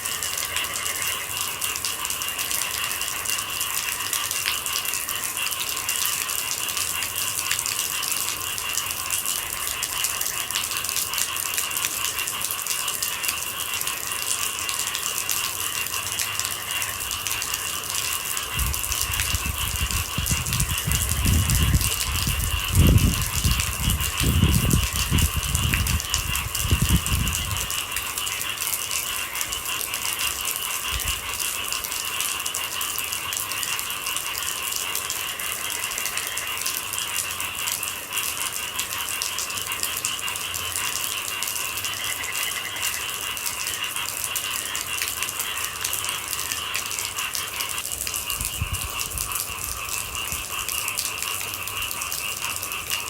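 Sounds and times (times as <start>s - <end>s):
night insects chirring: 0.0s - 53.0s
rain falling: 0.0s - 53.0s.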